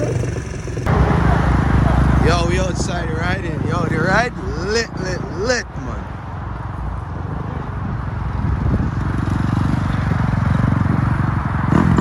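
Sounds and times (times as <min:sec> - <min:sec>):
dirt bike engine running: 0:00.0 - 0:06.0, 0:08.2 - 0:12.0.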